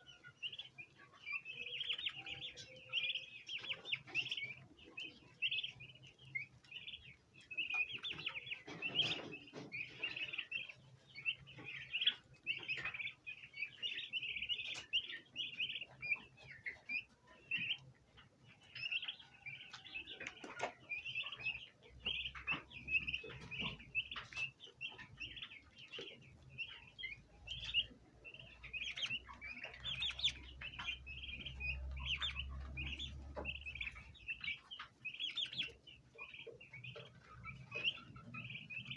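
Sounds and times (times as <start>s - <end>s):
turkey poults peeping: 0.0s - 38.9s.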